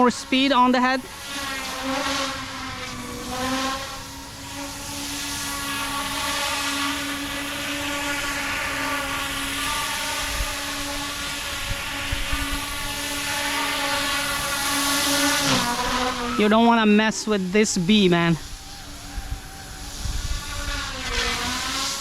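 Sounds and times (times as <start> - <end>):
rc helicopter rotor whine: 0.0 - 22.0.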